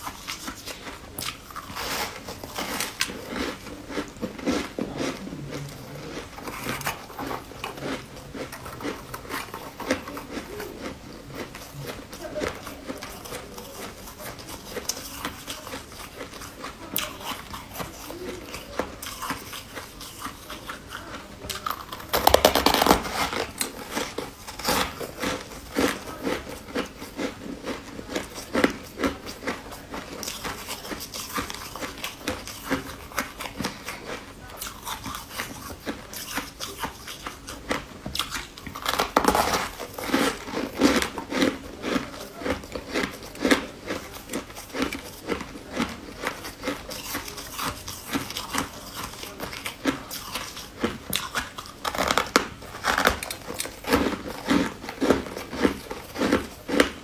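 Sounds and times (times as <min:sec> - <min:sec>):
person biting and chewing: 0:00.0 - 0:57.0.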